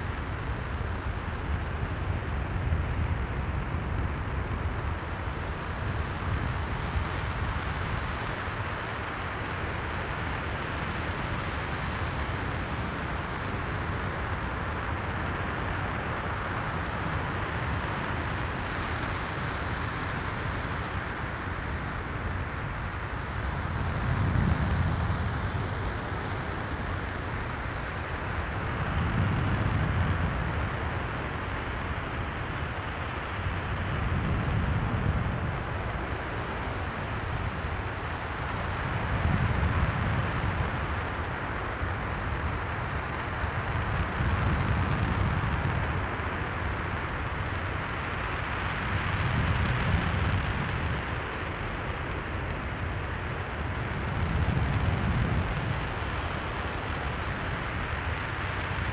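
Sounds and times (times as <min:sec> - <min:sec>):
rocket engine roaring hiss: 0:00.0 - 0:58.9.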